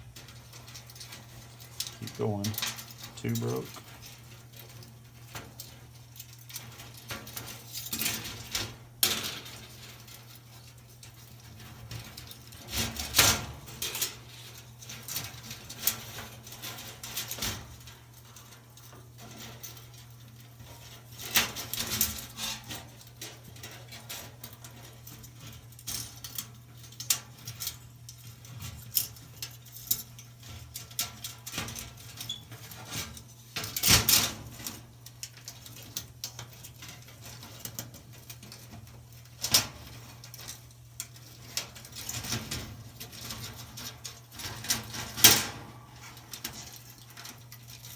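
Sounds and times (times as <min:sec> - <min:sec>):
metal coil clinking and scraping: 0:00.0 - 0:47.9.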